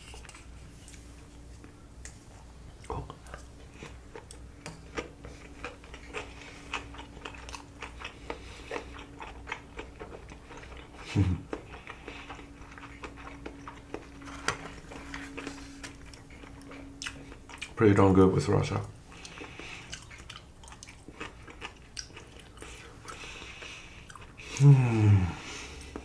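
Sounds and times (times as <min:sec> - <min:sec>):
faint steady hum: 0:00.0 - 0:26.0
chewing and biting food: 0:01.6 - 0:17.8, 0:19.0 - 0:24.7.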